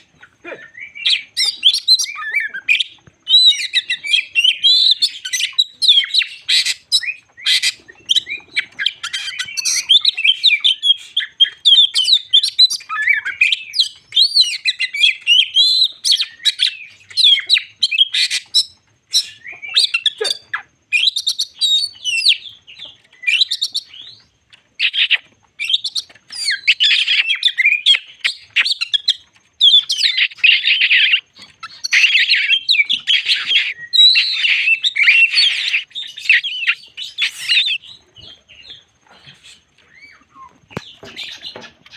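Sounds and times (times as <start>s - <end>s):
bird singing: 0.0s - 41.9s.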